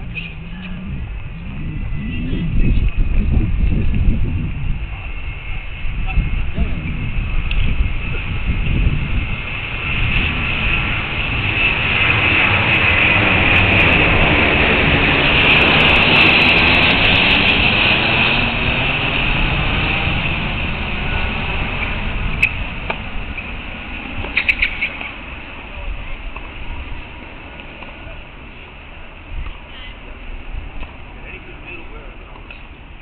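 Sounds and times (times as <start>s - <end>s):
aircraft passing overhead: 0.0s - 33.0s.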